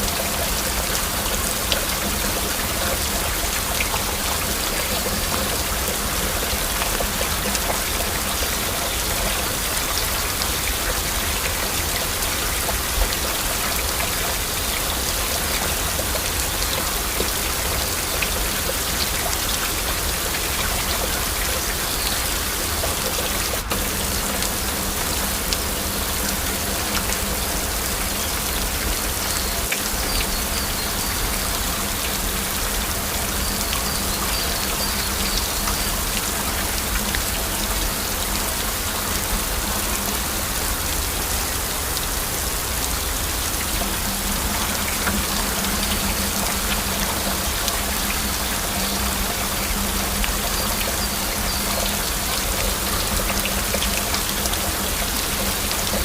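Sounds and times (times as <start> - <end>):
heavy rain falling: 0.0 - 56.0
raindrops ticking: 0.0 - 56.0.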